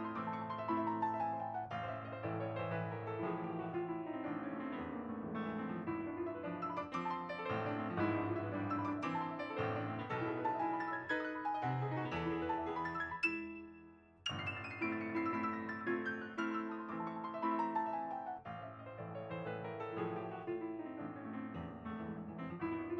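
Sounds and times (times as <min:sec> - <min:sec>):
piano piece: 0:00.0 - 0:22.9.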